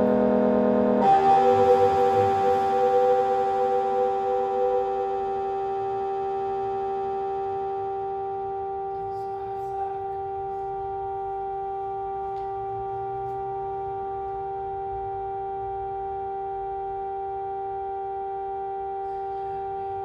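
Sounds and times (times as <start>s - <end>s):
synthesizer drone chord: 0.0s - 20.0s.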